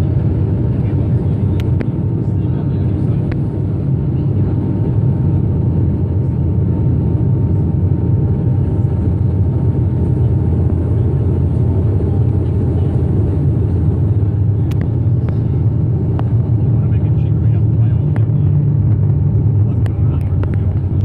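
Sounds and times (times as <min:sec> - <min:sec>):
propeller plane cabin drone: 0:00.0 - 0:21.0.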